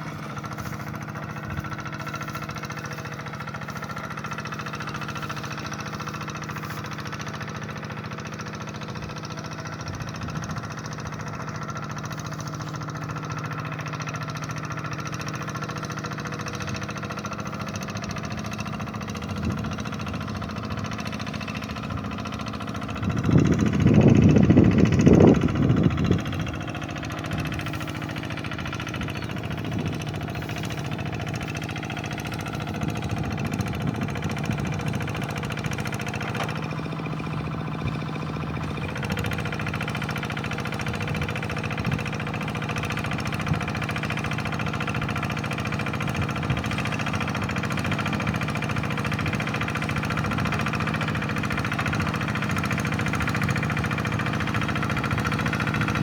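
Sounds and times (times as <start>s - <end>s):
hand tractor engine running: 0.0s - 56.0s.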